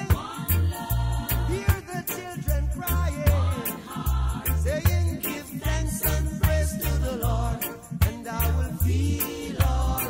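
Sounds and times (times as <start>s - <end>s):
reggae song with drums and bass: 0.0s - 10.0s.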